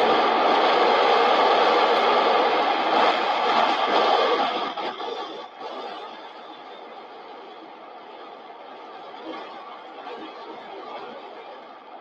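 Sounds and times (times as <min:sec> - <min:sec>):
rushing wind: 0:00.0 - 0:12.0.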